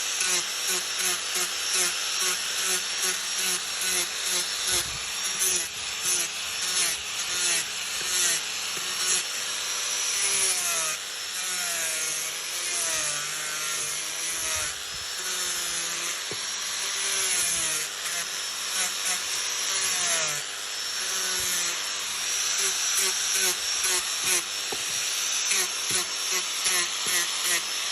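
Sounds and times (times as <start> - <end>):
saw cutting wood: 0.0 - 27.9.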